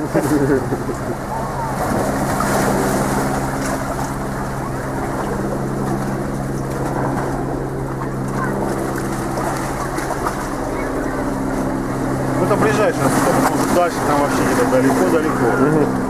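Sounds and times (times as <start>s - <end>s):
motor droning: 0.0s - 16.0s.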